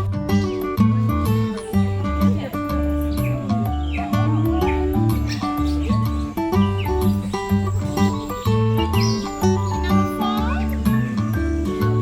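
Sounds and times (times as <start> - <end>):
background music with held bass notes: 0.0 - 12.0.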